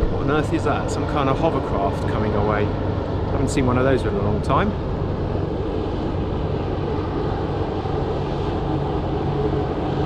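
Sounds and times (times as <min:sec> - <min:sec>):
hovercraft engine humming: 0:00.0 - 0:10.0.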